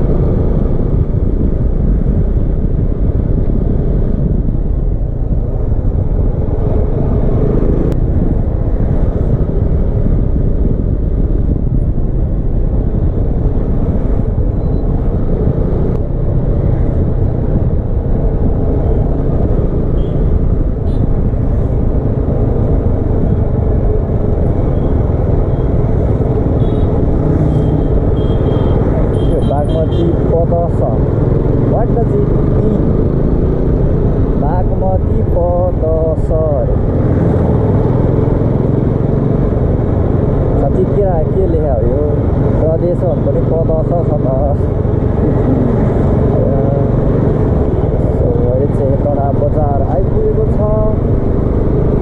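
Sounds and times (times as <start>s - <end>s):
low wind rumble: 0.0s - 52.0s
vehicle engine and road noise: 0.0s - 52.0s.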